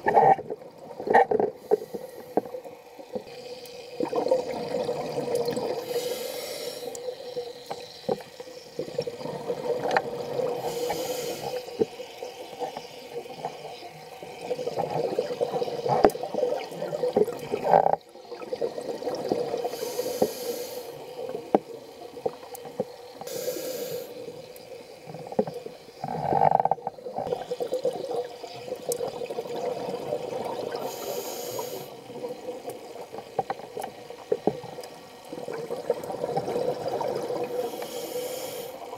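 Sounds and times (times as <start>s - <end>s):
exhaled bubbles underwater: 2.5s - 6.1s, 6.9s - 23.2s, 24.2s - 38.9s.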